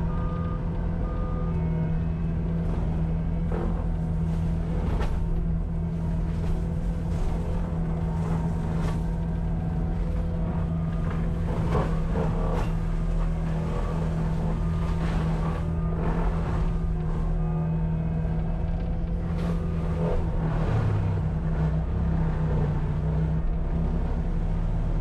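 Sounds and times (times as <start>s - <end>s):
diesel engine running high: 0.0s - 25.0s.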